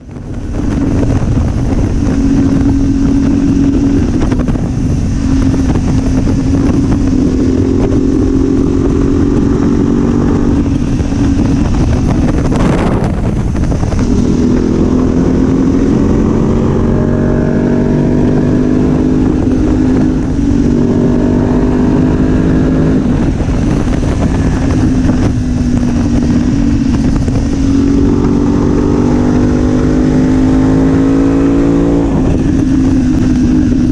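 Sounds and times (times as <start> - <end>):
loud whoosh: 0.0 - 33.9
motorcycle engine accelerating: 0.0 - 33.9
wind noise rushing: 0.0 - 33.9.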